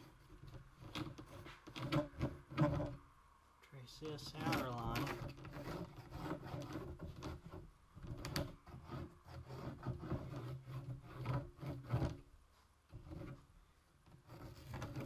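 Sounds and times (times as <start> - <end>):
marking tool scratching on plywood: 0.0 - 3.0, 4.4 - 12.2, 13.0 - 13.4, 14.1 - 15.0.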